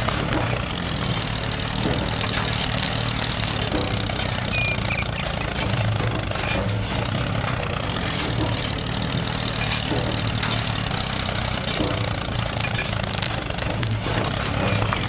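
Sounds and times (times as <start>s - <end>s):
faint rattles and clicks: 0.0s - 15.0s
motor humming: 0.0s - 15.0s.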